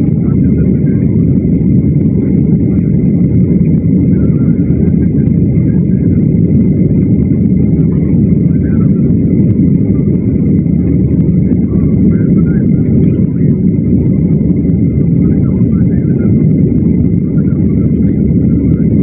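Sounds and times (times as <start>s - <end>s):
jet cabin rumble: 0.0s - 19.0s.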